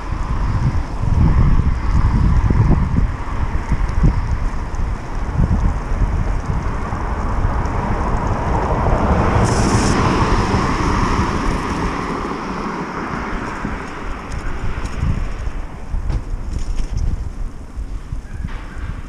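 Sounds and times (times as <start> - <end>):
traffic noise: 0.0 - 19.0
wind buffeting microphone: 0.0 - 19.0.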